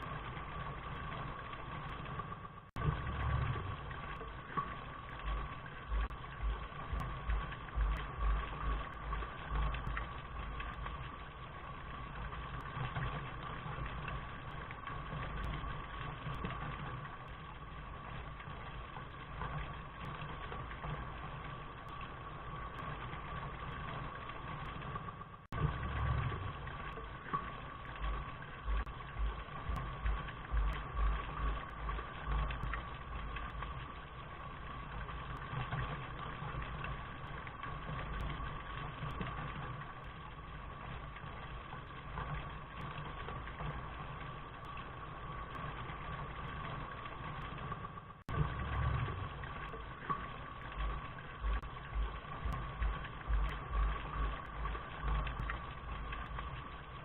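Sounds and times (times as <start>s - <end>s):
low uneven rumble: 0.0s - 57.0s
steady rain: 0.0s - 57.0s.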